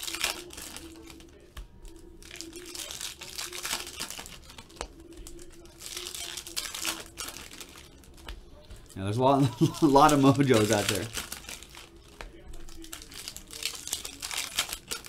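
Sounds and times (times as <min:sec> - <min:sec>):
cards being handled: 0:00.0 - 0:15.0
foil wrappers crinkling and tearing: 0:00.0 - 0:15.0.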